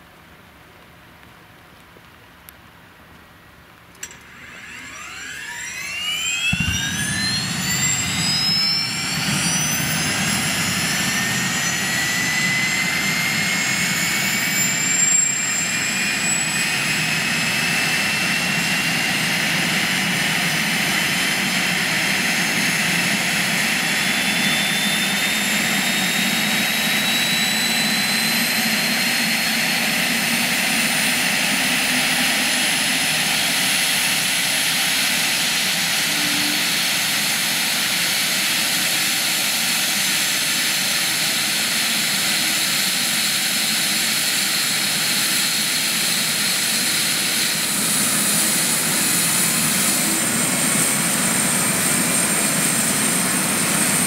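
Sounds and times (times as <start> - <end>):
helicopter engines and rotor rushing: 3.9 - 54.0
turbine whine rising in pitch: 4.0 - 54.0.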